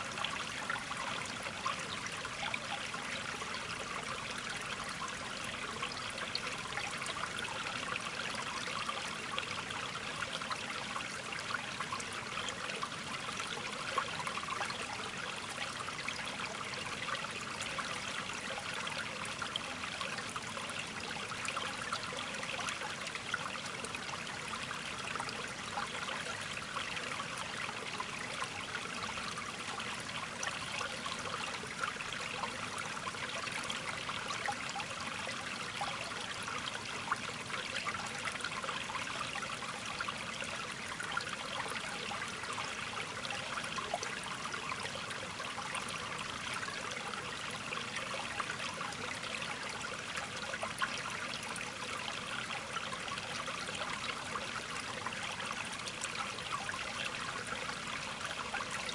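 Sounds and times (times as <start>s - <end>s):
trickling running water: 0.0s - 58.9s.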